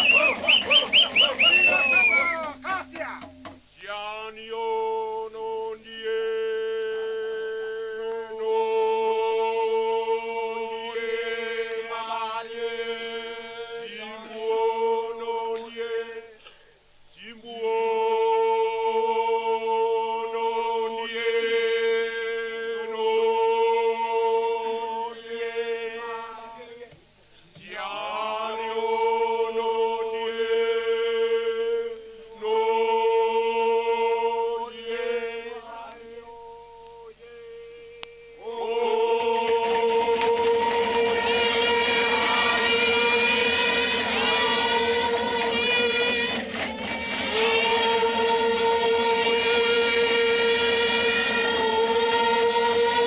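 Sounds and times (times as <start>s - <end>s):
voices chanting on a held note: 0.0s - 53.0s.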